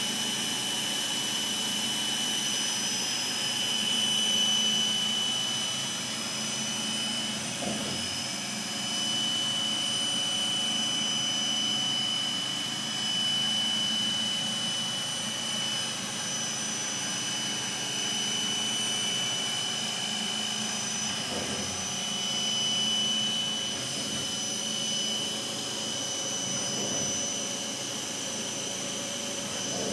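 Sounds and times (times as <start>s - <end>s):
router spindle high-pitched whine: 0.0s - 29.9s.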